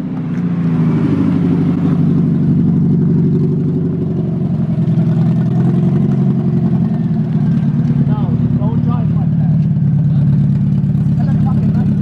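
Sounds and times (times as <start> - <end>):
loud car engine idling: 0.0 - 12.0.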